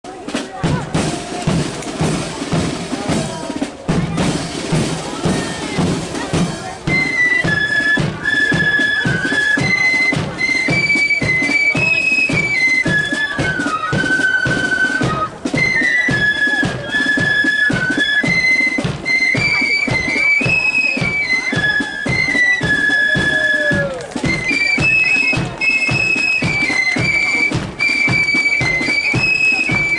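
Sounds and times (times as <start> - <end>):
snare and bass drums: 0.0 - 29.9
flute band playing: 0.1 - 29.9.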